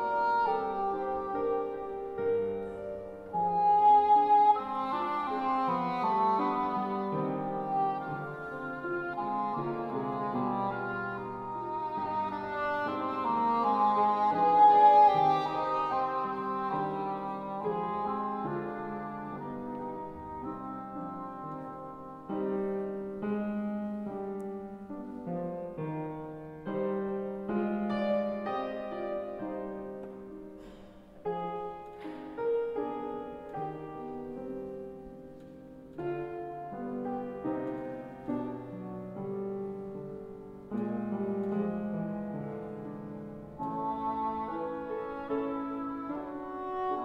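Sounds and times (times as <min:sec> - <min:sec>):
cor anglais melody: 0:00.0 - 0:47.0
piano accompaniment: 0:00.0 - 0:47.0.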